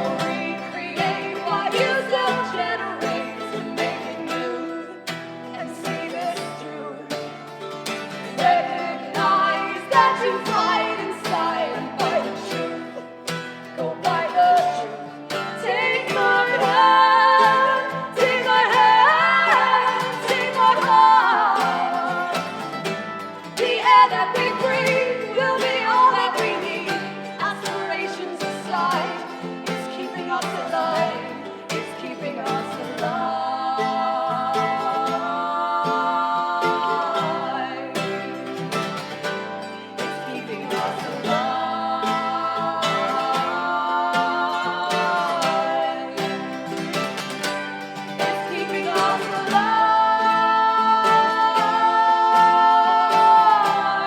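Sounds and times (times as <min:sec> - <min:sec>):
acoustic guitar strumming: 0:00.0 - 0:54.0
people singing: 0:00.0 - 0:54.0.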